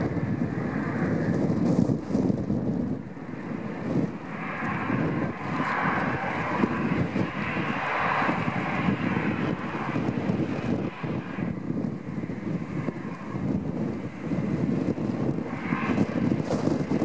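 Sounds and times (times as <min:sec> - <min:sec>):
jet airliner taking off: 0:00.0 - 0:17.0.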